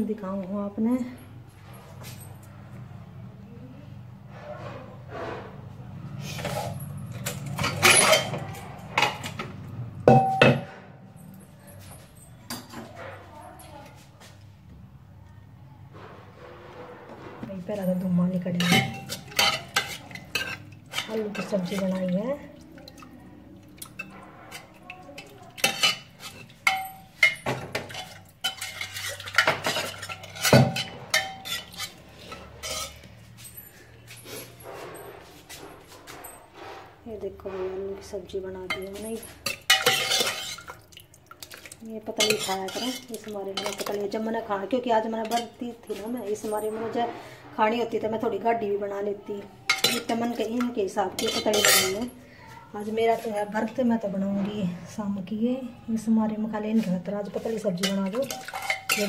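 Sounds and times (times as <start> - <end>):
steel kitchen utensils clanking: 4.2 - 14.0, 15.9 - 59.0.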